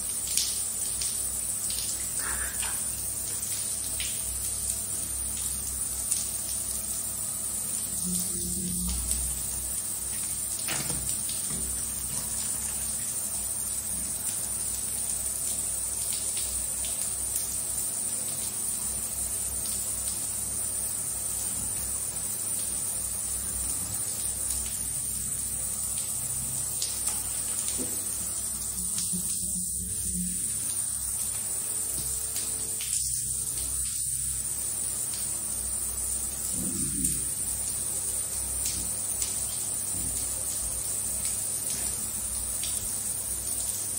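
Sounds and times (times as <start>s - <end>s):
shower water spraying: 0.0s - 43.9s.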